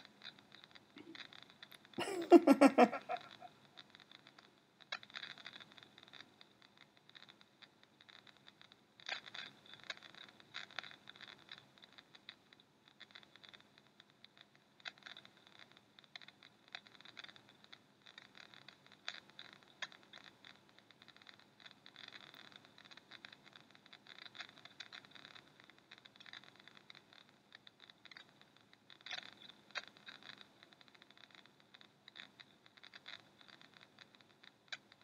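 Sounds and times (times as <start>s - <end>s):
low hiss: 0.0s - 35.0s
clicking and scratching: 3.0s - 35.0s.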